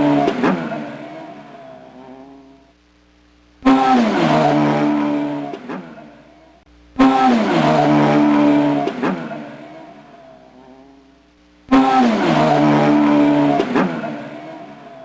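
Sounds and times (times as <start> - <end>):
motorcycle engine revving: 0.0 - 2.7, 3.6 - 15.0.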